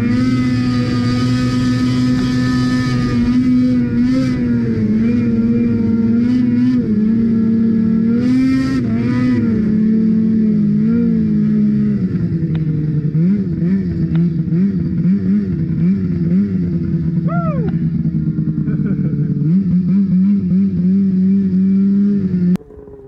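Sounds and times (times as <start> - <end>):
snowmobile engine revving: 0.0 - 23.0.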